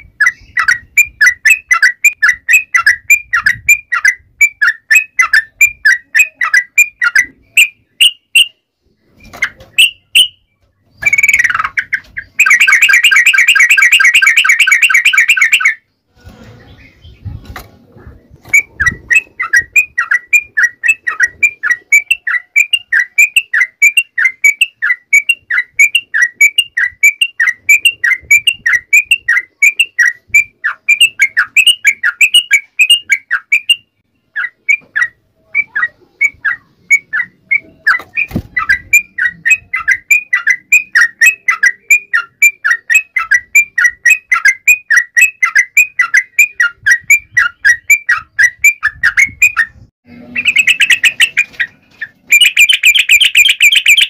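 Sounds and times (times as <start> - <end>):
bird chattering whistled notes: 0.0 - 15.9, 18.5 - 54.0.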